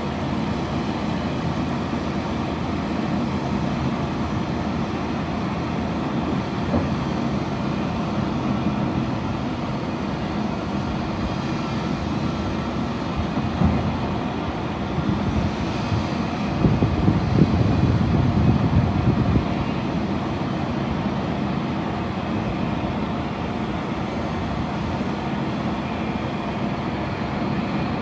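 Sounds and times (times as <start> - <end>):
suction excavator truck running: 0.0 - 28.0.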